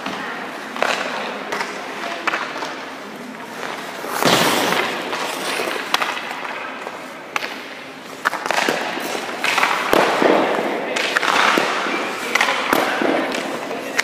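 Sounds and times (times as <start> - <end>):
puck and stick cracks: 0.0 - 14.0
skate blade scraping ice: 2.2 - 14.0.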